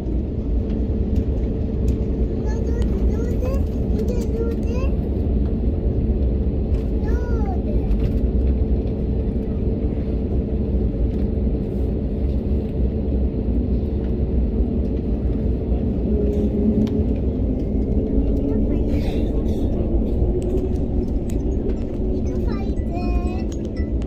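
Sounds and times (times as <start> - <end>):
aircraft engine rumble: 0.0 - 24.0.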